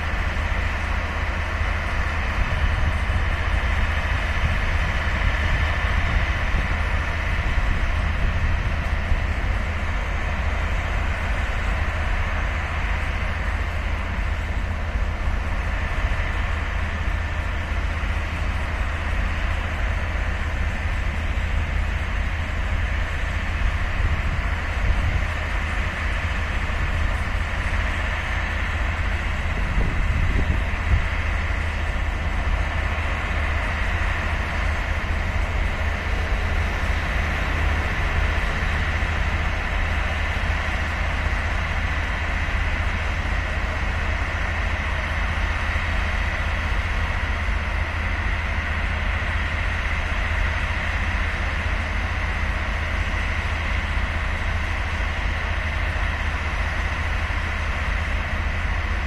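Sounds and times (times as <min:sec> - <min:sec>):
idling train rumble and hum: 0:00.0 - 0:59.0.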